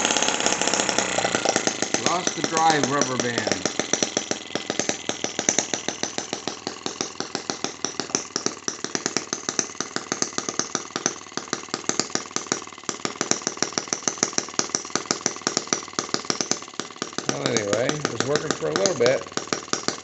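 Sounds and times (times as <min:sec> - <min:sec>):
model engine popping: 0:00.0 - 0:20.0.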